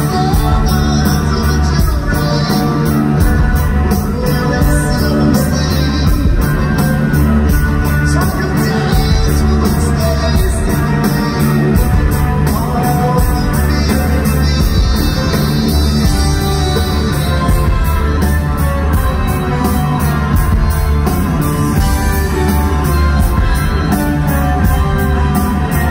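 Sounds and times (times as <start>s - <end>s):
live rock band: 0.0s - 25.9s
man singing: 0.0s - 25.9s.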